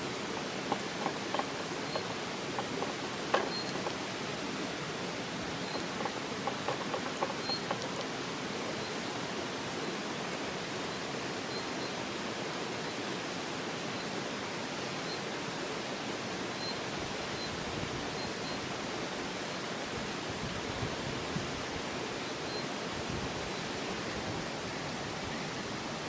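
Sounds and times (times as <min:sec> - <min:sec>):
river rushing: 0:00.0 - 0:26.0.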